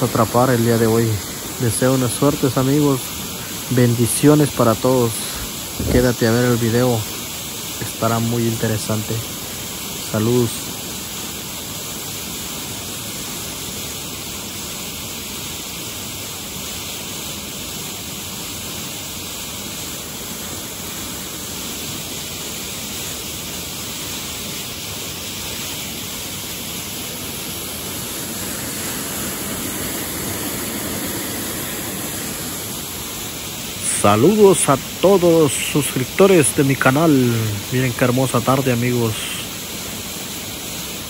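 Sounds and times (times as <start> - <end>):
water rushing from dam outlet: 0.0 - 41.0.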